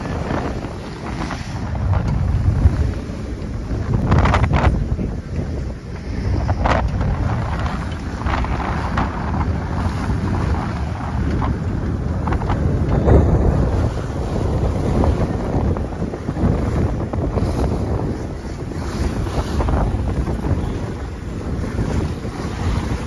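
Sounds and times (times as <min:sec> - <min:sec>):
strong wind buffeting microphone: 0:00.0 - 0:23.0
waves splashing against hull: 0:00.0 - 0:23.0.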